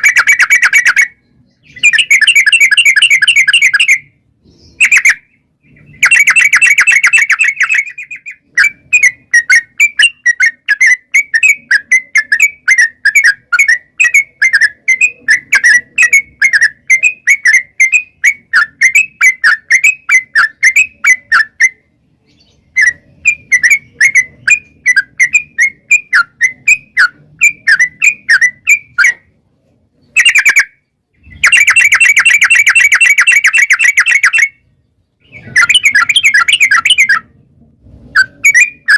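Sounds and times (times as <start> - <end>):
bird trilling: 0.0 - 29.4, 30.0 - 37.4, 38.1 - 38.9
quick bird chirping notes: 0.0 - 38.9.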